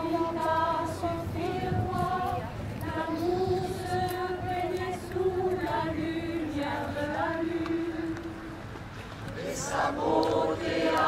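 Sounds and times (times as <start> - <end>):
mixed choir singing unaccompanied: 0.0 - 8.6, 9.4 - 11.0.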